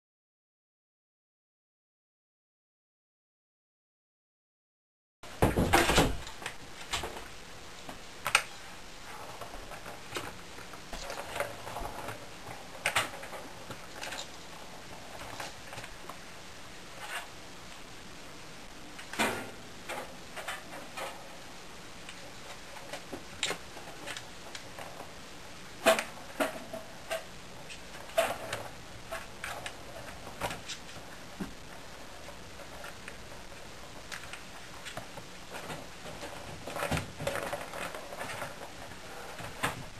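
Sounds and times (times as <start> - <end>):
steady low hiss: 5.2 - 39.9.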